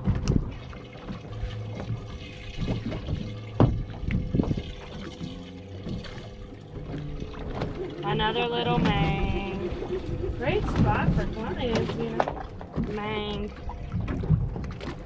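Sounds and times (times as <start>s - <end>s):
steady low hum: 0.0s - 15.0s
water sloshing at a boat: 0.0s - 15.0s.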